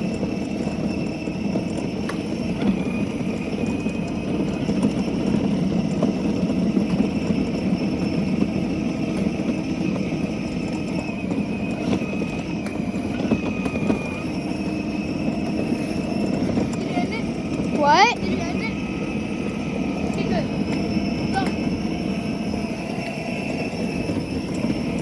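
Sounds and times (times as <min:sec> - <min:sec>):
mini bike engine running: 0:00.0 - 0:25.0.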